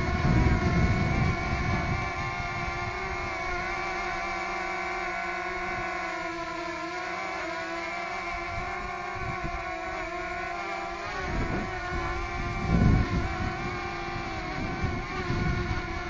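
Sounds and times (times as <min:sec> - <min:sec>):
wind rumble on microphone: 0:00.0 - 0:06.7, 0:07.9 - 0:16.0
drone propellers whining: 0:00.0 - 0:16.0.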